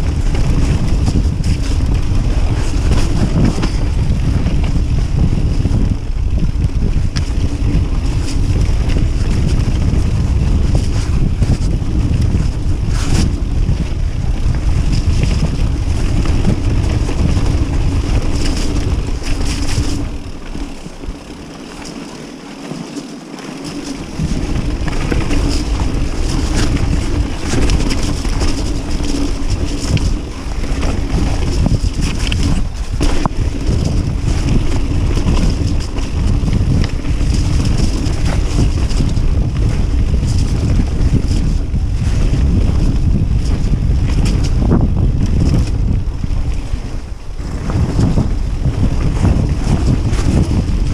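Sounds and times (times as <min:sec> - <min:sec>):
wind buffeting microphone: 0:00.0 - 0:22.2, 0:23.4 - 0:50.9
bike rattles and clicks: 0:00.0 - 0:50.9
tyres rolling over dirt and stones: 0:00.0 - 0:50.9.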